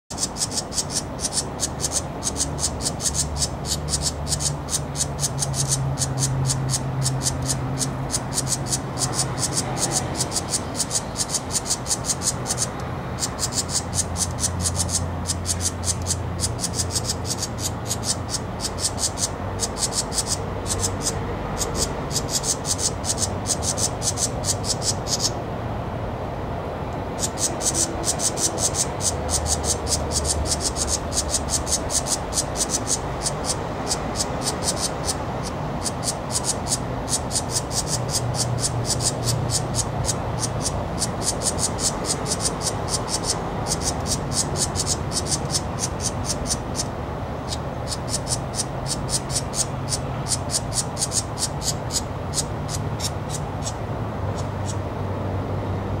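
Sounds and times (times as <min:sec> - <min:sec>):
songbird high ticking calls: 0:00.1 - 0:25.4, 0:27.1 - 0:54.9.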